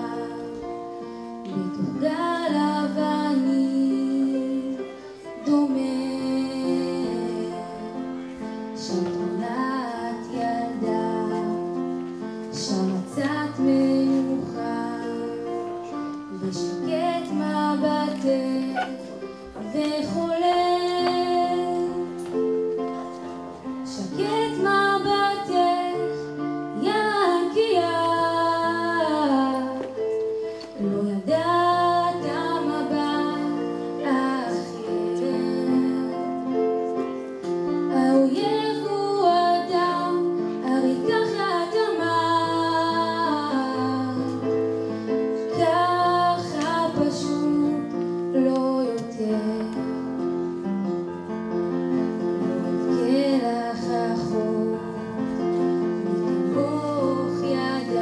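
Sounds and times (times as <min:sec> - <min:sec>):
young woman singing: 0:00.0 - 0:22.8, 0:23.8 - 0:50.2, 0:51.9 - 0:58.0.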